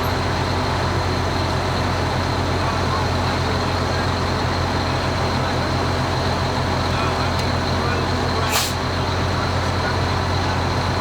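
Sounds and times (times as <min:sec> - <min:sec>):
large vehicle engine humming: 0:00.0 - 0:11.0.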